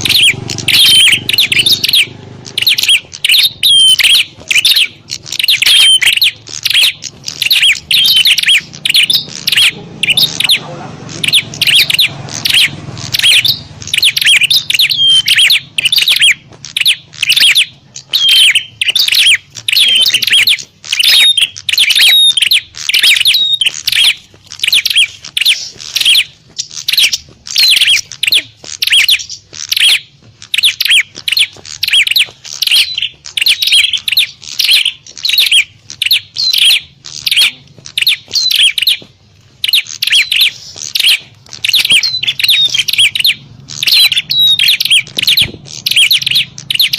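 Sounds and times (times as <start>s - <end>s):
birds chirping sharply: 0.0s - 46.9s.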